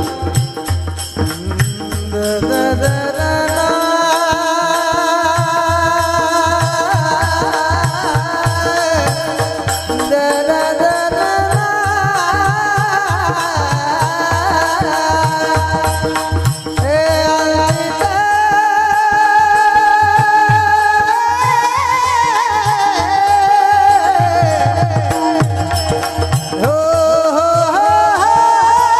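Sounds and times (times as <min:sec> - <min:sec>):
man singing devotional song: 0:00.0 - 0:28.9.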